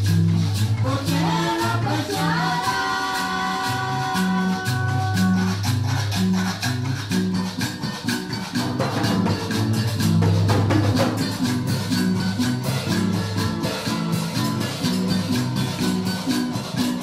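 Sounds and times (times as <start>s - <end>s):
fast percussion: 0.0s - 17.0s
moving bass line: 0.0s - 17.0s.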